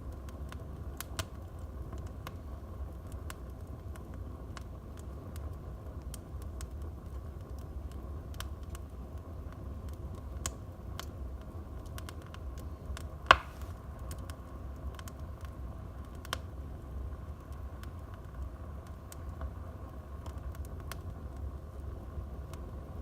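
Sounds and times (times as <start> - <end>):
fire popping: 0.0 - 23.0
wood fire crackling: 0.0 - 23.0.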